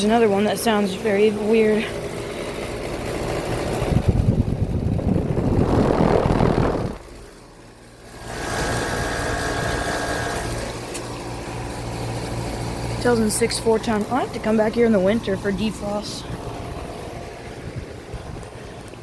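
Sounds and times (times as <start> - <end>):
air conditioner humming: 0.0 - 19.0
air conditioner rough rumble: 0.0 - 19.0.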